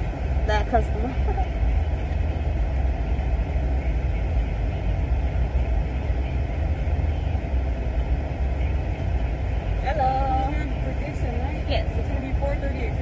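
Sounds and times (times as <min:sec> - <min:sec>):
car idling rumble: 0:00.0 - 0:13.0.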